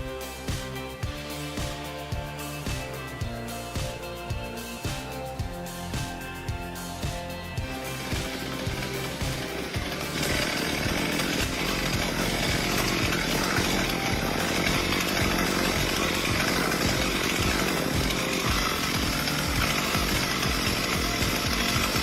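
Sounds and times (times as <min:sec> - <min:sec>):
chainsaw cutting at high revs: 0:00.0 - 0:22.0.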